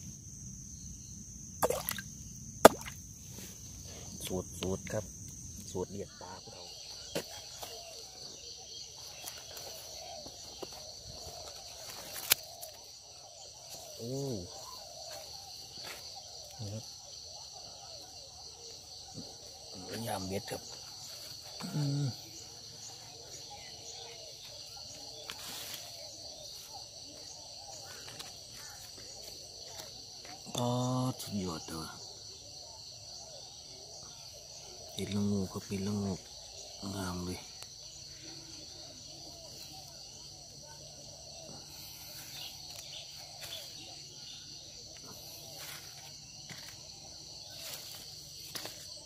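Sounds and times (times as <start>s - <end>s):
crickets trilling: 0.0s - 49.0s
high-pitched insect chorus: 0.0s - 49.0s.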